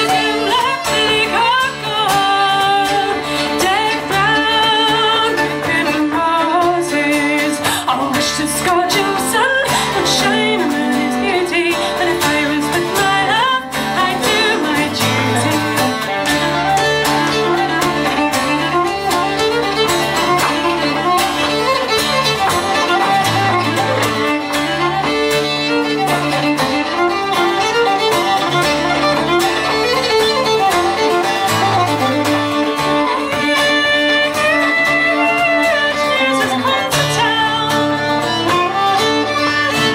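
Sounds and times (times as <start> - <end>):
fiddle melody: 0.0 - 39.9
folk band playing: 0.0 - 39.9.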